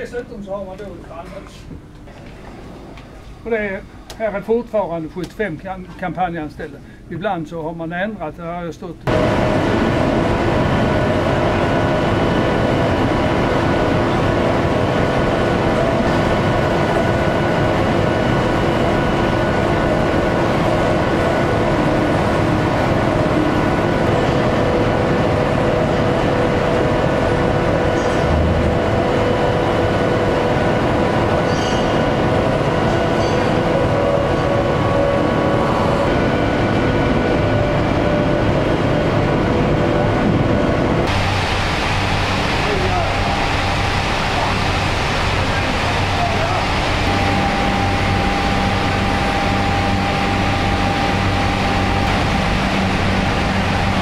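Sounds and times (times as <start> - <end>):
steady humming tones: 0.0 - 54.0
machinery mechanical din: 9.1 - 54.0.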